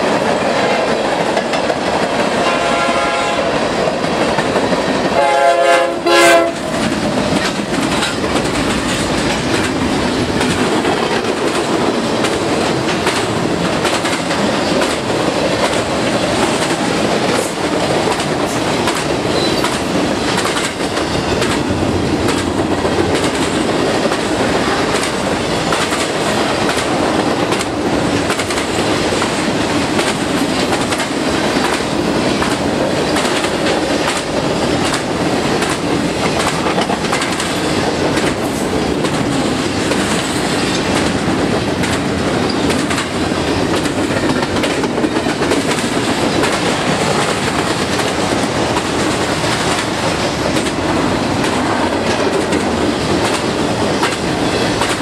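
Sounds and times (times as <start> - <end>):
freight train rumbling past: 0.0 - 55.0
wheels clacking over rail joints: 6.3 - 55.0.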